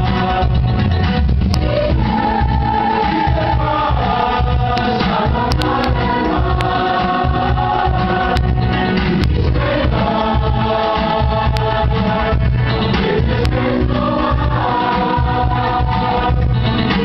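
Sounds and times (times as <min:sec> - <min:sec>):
singing over bass beat: 0:00.0 - 0:17.0.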